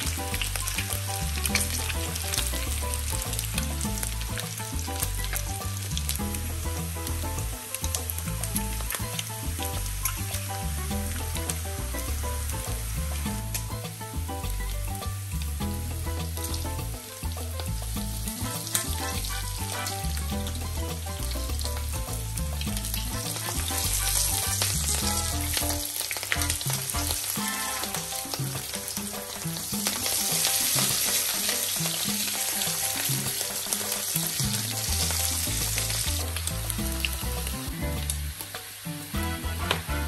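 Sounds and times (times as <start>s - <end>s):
bacon sizzling in a pan: 0.0s - 40.0s.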